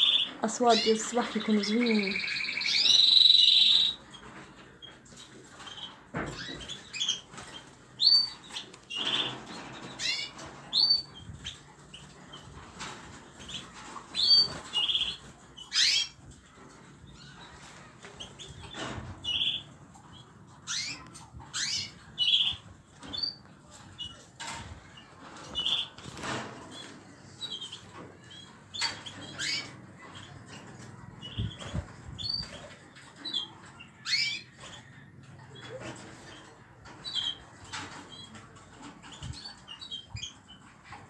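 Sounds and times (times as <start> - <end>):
cage birds chirping: 0.0 - 41.0.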